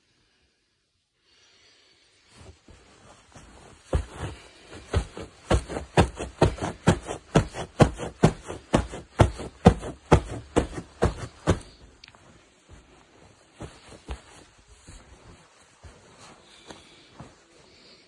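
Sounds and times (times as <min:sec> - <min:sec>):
shoes thudding on a bed: 0:02.4 - 0:17.4.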